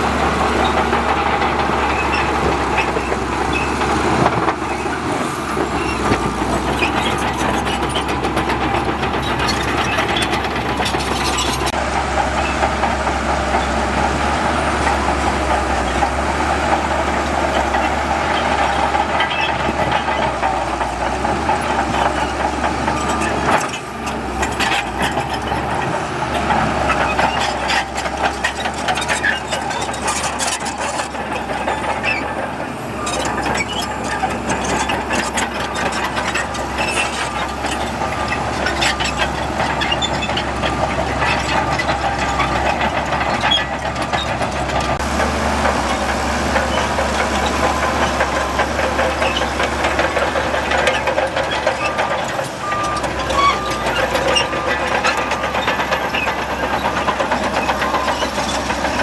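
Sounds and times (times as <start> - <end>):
diesel engine running under load: 0.0 - 59.0
metal clanks and knocks: 0.2 - 59.0.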